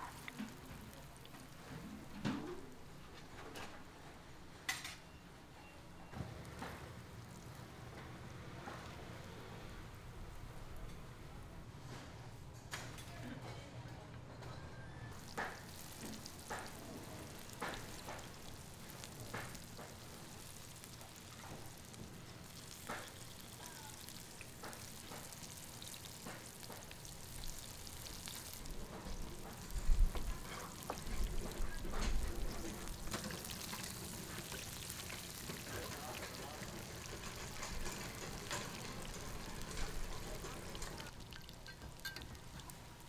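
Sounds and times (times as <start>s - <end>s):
hot oil sizzling: 0.0s - 4.8s, 6.3s - 9.0s, 15.1s - 43.0s.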